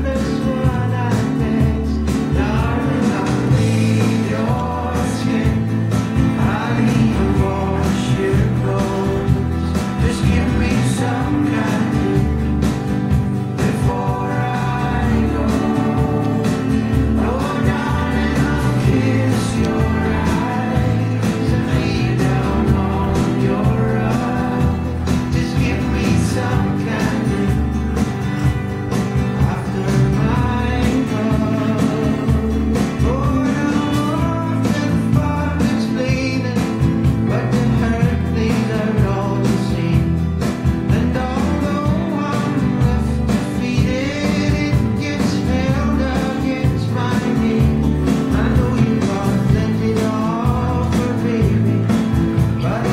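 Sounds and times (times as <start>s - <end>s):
song with vocals and band: 0.0s - 52.9s.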